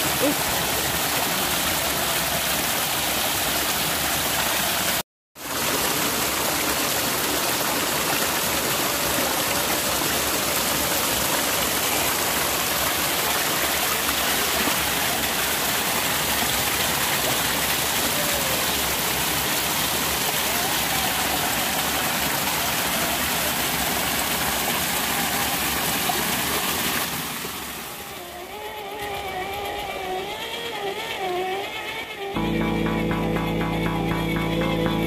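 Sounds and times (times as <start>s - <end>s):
flowing water rushing: 0.0s - 35.0s.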